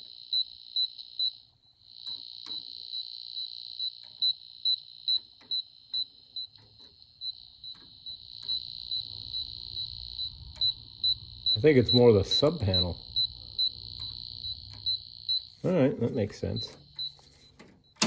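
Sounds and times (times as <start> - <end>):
high-pitched pulsing beeps: 0.0 - 18.0.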